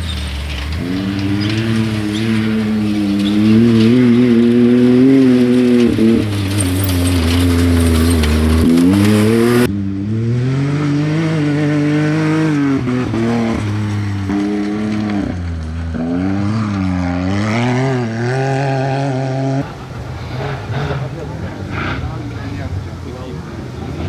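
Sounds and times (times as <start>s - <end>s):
utility vehicle engine revving: 0.0s - 24.0s.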